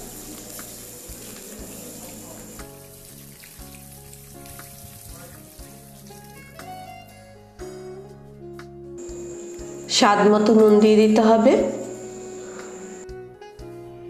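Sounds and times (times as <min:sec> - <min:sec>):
water splashing and sizzling in wok: 0:00.0 - 0:07.8, 0:09.0 - 0:13.1
soft background music: 0:00.0 - 0:14.0.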